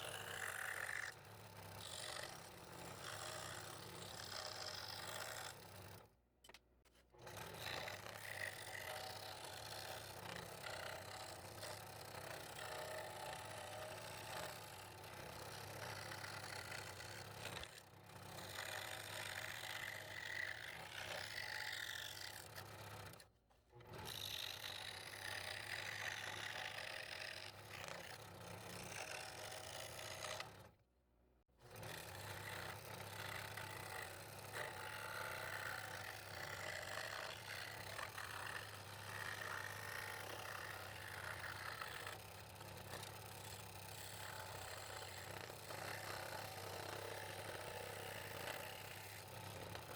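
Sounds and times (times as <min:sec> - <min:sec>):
scroll saw cutting wood: 0:00.0 - 0:05.9, 0:07.2 - 0:30.8, 0:31.6 - 0:49.9.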